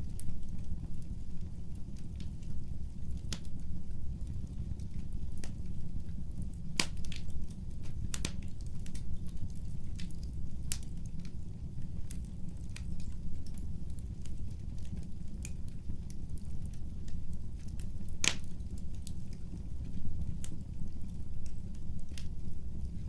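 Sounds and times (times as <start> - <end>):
burning logs crackling and popping: 0.0 - 23.0
low rumble of flames: 0.0 - 23.0.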